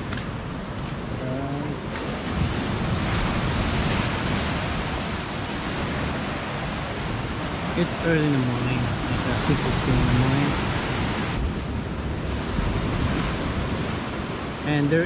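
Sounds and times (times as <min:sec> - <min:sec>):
ocean surf breaking: 0:00.0 - 0:15.0
wind rumbling on microphone: 0:00.0 - 0:15.0.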